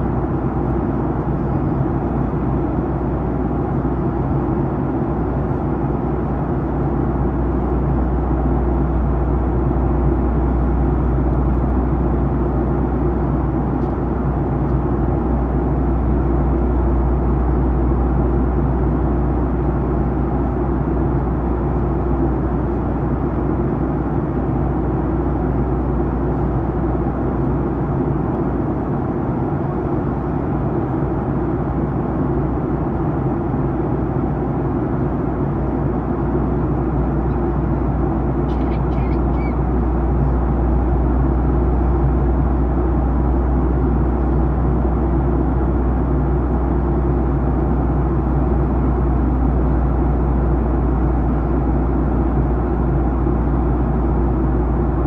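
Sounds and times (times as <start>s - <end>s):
airflow rush in airliner cabin: 0.0s - 55.0s
jet engines humming: 0.0s - 55.0s.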